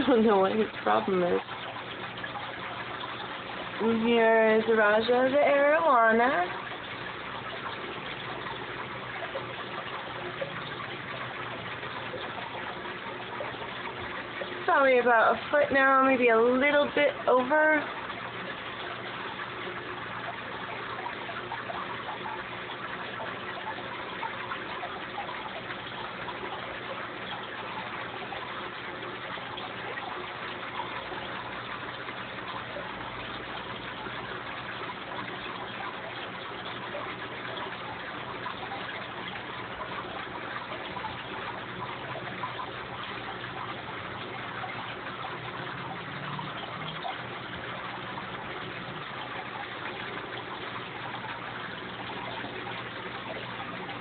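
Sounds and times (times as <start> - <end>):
aquarium water bubbling: 0.0 - 54.0.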